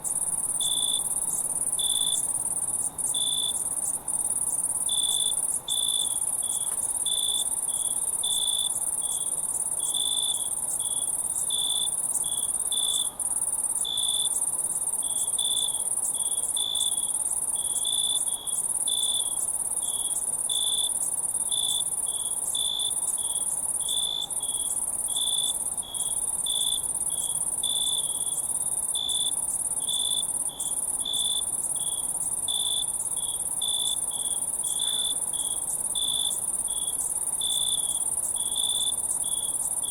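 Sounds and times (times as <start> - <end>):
crickets trilling: 0.0 - 39.9
low-pitched insect chirp: 0.0 - 39.9.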